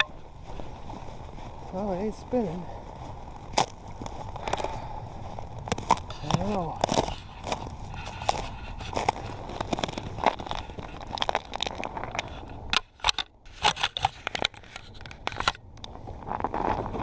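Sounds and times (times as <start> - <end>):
snow and ice crunching: 0.0 - 17.0.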